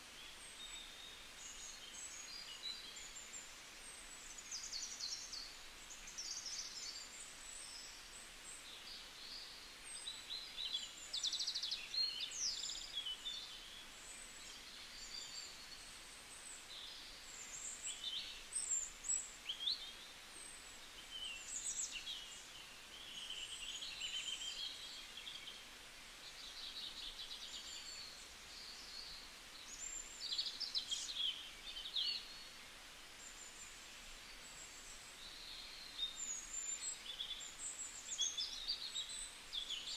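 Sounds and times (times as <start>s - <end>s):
small birds chirping: 0.0s - 39.9s
steady hiss: 0.0s - 39.9s.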